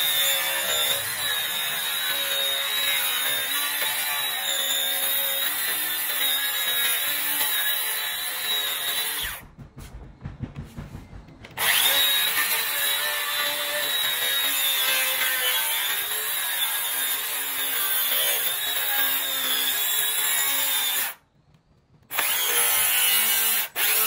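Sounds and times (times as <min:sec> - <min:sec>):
circular saw cutting wood: 0:00.0 - 0:21.2, 0:22.1 - 0:24.0.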